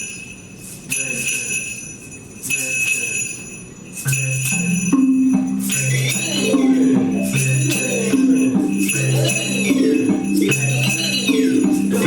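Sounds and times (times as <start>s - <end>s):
shakers: 0.0s - 12.0s
sleigh bells jingling: 0.0s - 12.0s.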